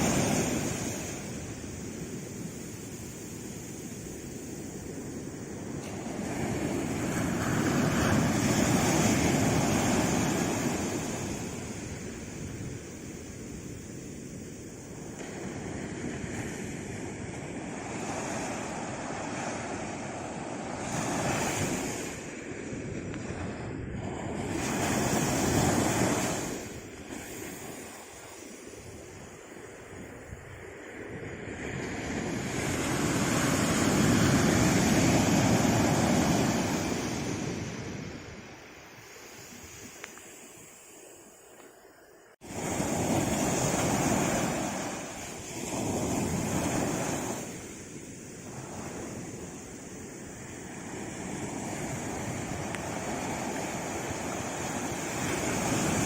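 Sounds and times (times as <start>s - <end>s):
sea waves on shore: 0.0s - 56.0s.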